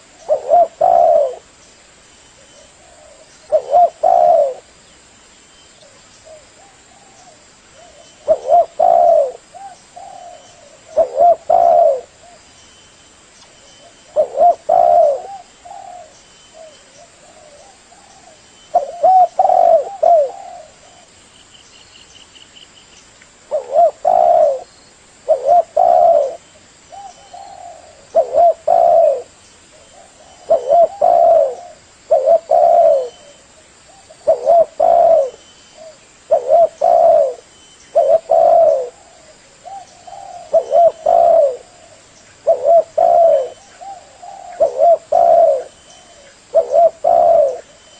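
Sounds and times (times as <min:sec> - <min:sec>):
dove cooing: 0:00.0 - 0:01.6, 0:02.4 - 0:04.7, 0:05.8 - 0:12.5, 0:13.8 - 0:21.2, 0:23.5 - 0:47.9.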